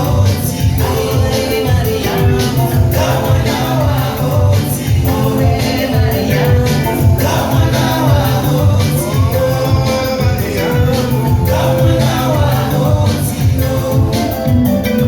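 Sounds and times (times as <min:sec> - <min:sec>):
singing over a heavy beat: 0:00.0 - 0:15.0.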